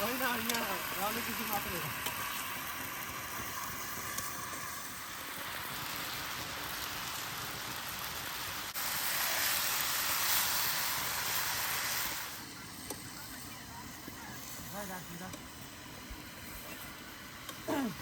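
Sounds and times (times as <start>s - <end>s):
chicken sizzling: 0.0s - 18.0s.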